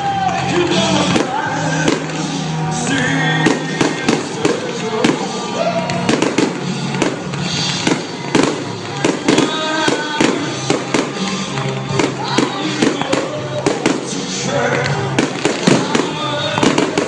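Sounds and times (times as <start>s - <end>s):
background music: 0.0s - 17.0s
fireworks banging: 0.1s - 17.0s.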